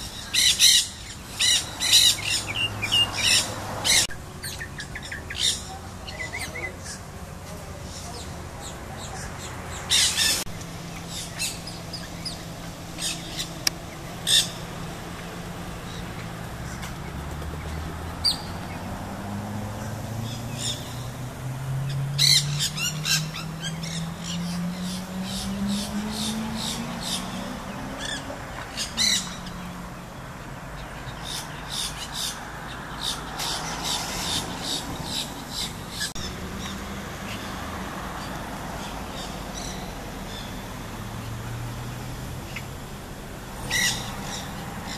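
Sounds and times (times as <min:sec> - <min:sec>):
parakeets screeching: 0:00.0 - 0:18.9, 0:19.6 - 0:21.1, 0:21.7 - 0:29.8, 0:31.1 - 0:40.7, 0:43.6 - 0:44.9.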